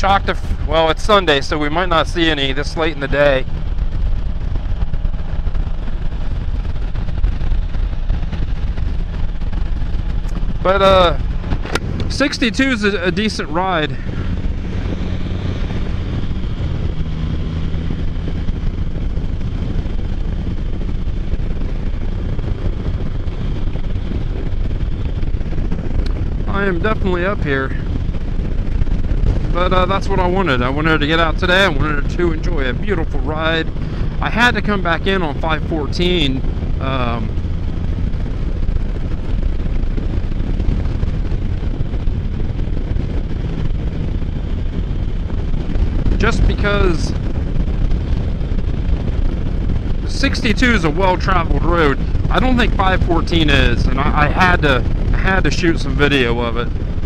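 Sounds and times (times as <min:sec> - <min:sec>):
engine running: 0:00.0 - 0:57.0
road noise: 0:00.0 - 0:57.0
wind rush on microphone: 0:00.0 - 0:57.0.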